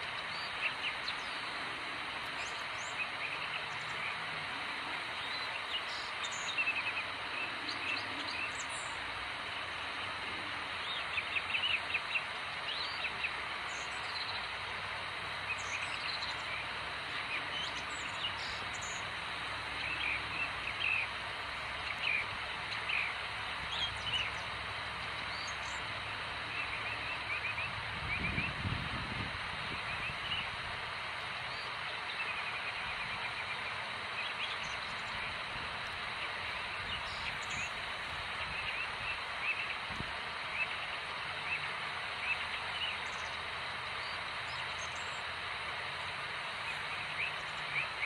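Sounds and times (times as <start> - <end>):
small birds chirping: 0.0 - 48.0
steady outdoor hiss: 0.0 - 48.0.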